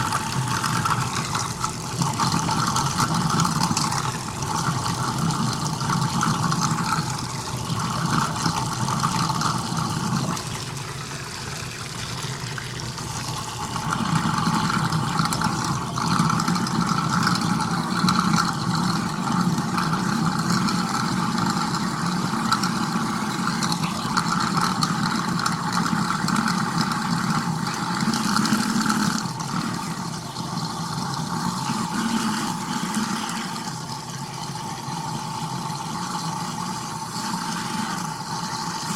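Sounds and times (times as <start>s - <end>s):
garbage disposal running: 0.0s - 38.9s.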